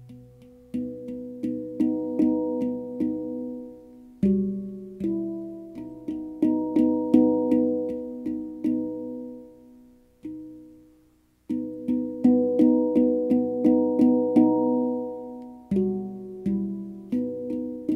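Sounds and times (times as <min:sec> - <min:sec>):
handpan notes ringing: 0:00.0 - 0:10.9, 0:11.5 - 0:17.9.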